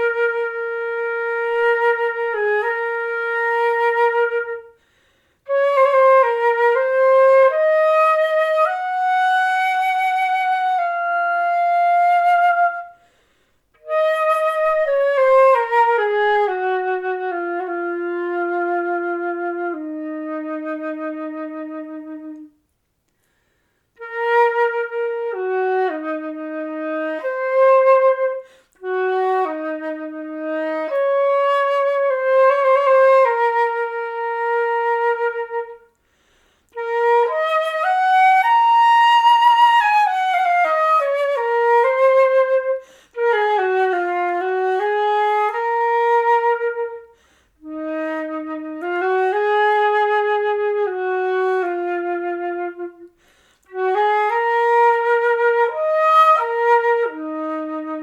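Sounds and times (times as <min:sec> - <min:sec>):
solo flute melody: 0:00.0 - 0:58.0.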